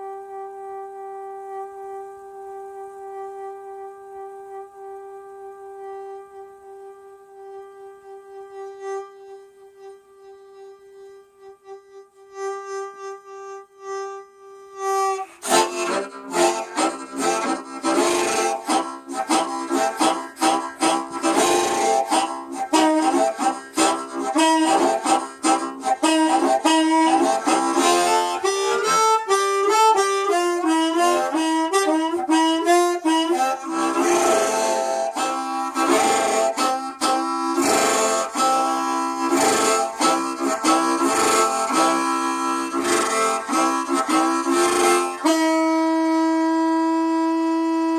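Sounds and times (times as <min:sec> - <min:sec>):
harmonica playing: 0:00.0 - 0:47.9.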